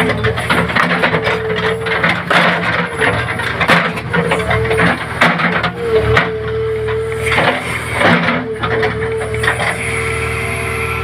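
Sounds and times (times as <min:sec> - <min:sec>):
clanks and rattles: 0:00.0 - 0:09.8
heavy machine rumbling: 0:00.0 - 0:11.0
machine whine: 0:00.0 - 0:11.0.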